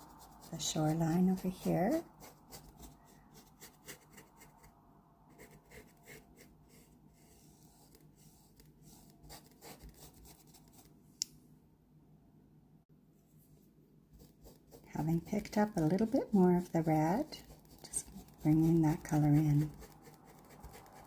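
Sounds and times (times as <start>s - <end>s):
paintbrush scratching: 0.0s - 4.7s, 5.3s - 10.9s, 14.2s - 21.0s.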